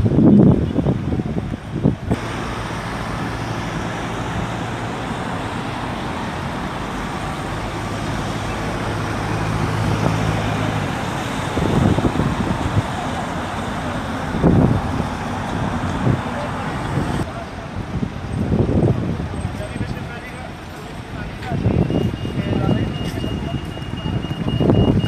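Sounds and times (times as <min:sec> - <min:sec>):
city road traffic: 0:00.0 - 0:25.0
vehicle engine humming nearby: 0:00.0 - 0:25.0
wind gusts on microphone: 0:00.0 - 0:25.0.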